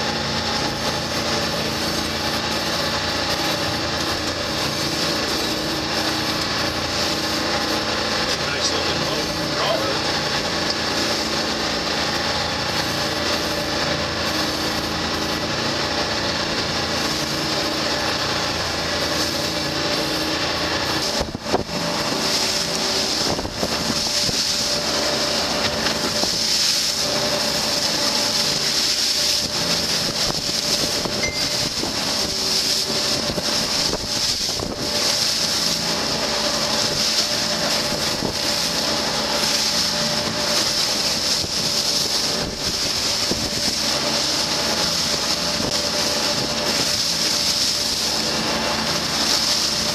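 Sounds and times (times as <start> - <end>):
boat engine drone: 0.0 - 49.9
water rushing along hull: 0.0 - 49.9.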